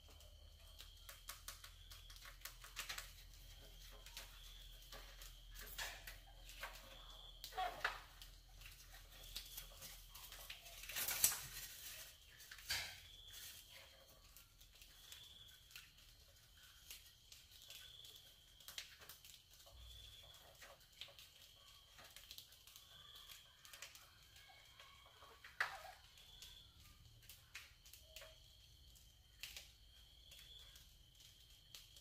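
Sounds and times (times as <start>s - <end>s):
rats scratching in wire cage: 0.0s - 32.0s.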